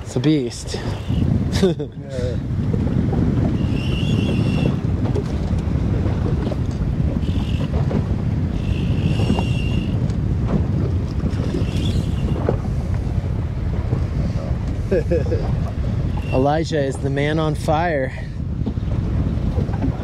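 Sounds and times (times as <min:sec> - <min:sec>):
waves slapping against boat: 0:00.0 - 0:20.0
wind buffeting microphone: 0:00.0 - 0:20.0.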